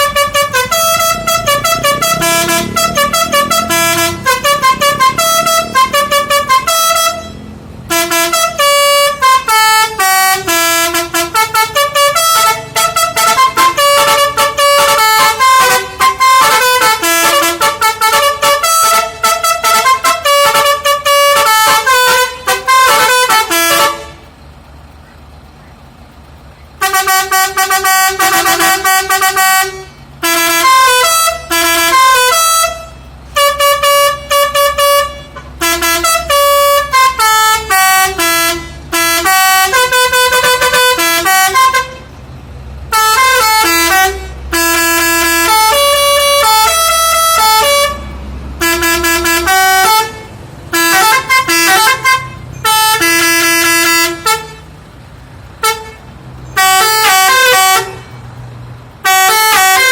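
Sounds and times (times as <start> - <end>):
air horn playing tunes: 0.0 - 24.3, 26.8 - 42.2, 42.9 - 54.8, 55.6 - 58.3, 59.0 - 59.9.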